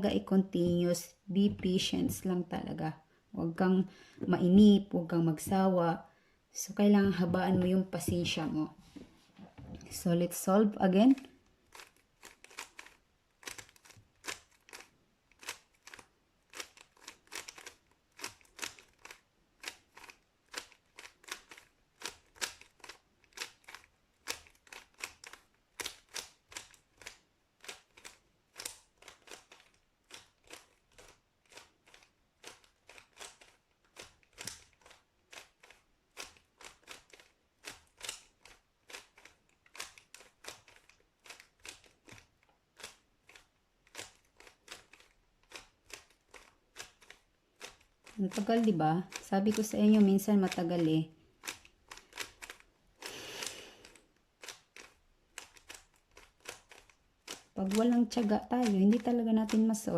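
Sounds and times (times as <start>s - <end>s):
puzzle cube layers clicking: 11.1s - 59.9s.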